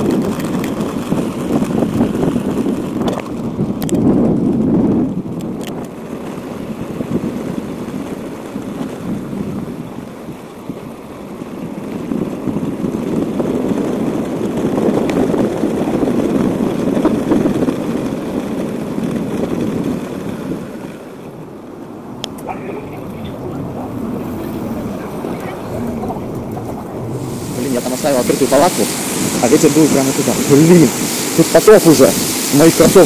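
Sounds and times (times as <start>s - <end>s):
bicycle tyres rattling over cobblestones: 0.0s - 33.0s.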